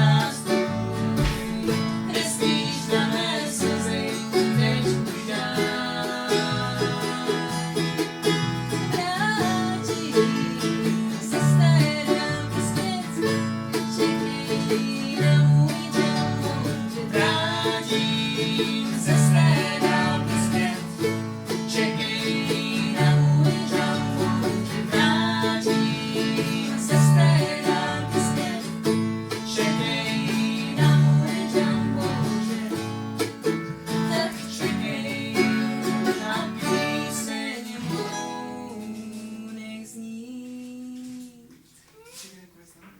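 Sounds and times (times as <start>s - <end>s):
country music on plucked strings: 0.0s - 41.2s.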